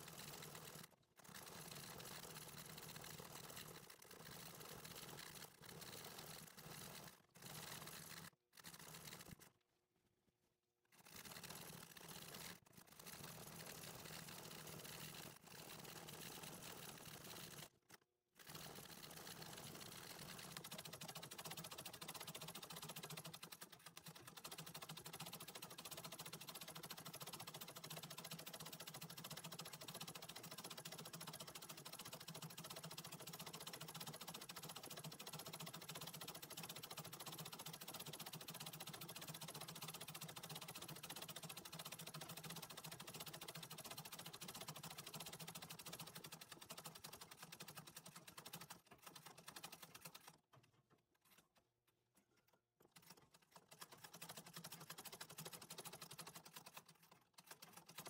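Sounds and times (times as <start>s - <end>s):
treadle sewing machine clatter: 0.0s - 9.6s, 10.9s - 58.0s.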